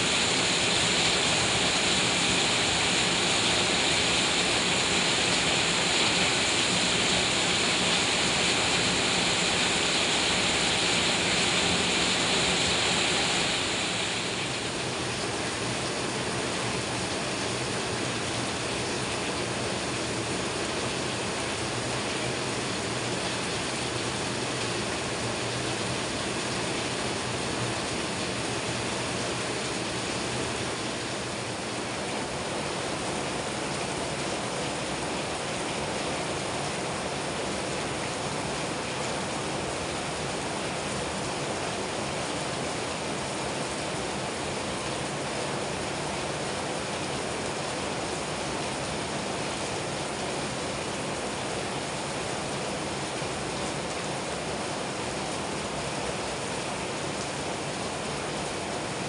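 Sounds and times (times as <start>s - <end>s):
rain falling on plants: 0.0s - 59.0s.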